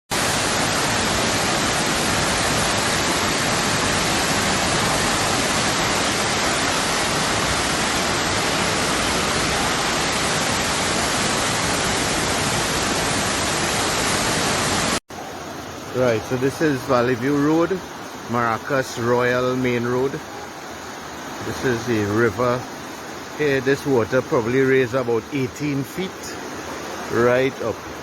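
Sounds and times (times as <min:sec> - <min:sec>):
floodwater rushing: 0:00.1 - 0:28.0.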